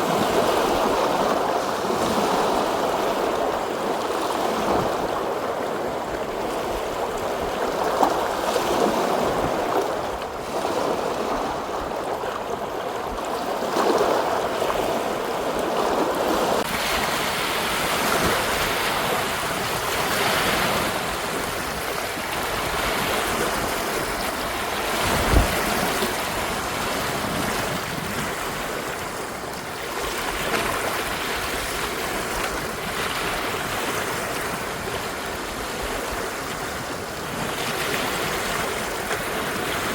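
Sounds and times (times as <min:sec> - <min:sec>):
waves washing against shore: 0:00.0 - 0:39.9.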